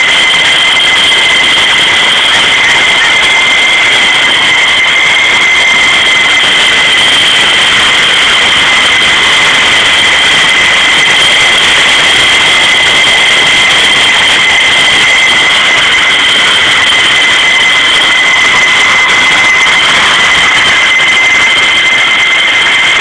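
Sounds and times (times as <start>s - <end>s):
jet engine idling whine: 0.0s - 23.0s.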